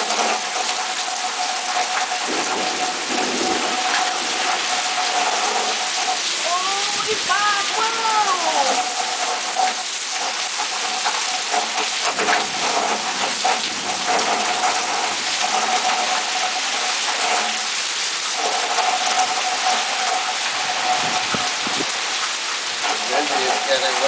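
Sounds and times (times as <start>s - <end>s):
heavy rain pouring on foliage: 0.0s - 24.0s.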